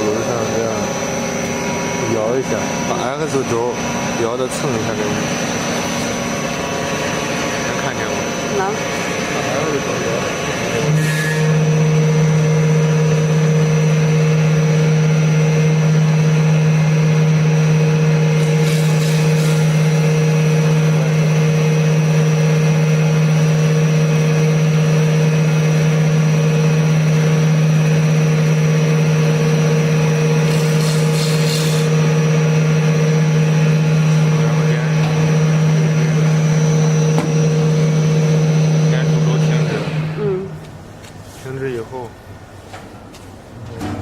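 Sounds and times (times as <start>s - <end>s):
lathe motor hum: 0.0s - 41.2s.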